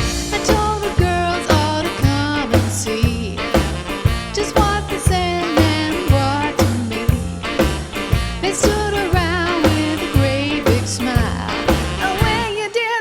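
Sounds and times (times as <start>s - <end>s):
upbeat rock and roll song: 0.0s - 13.0s.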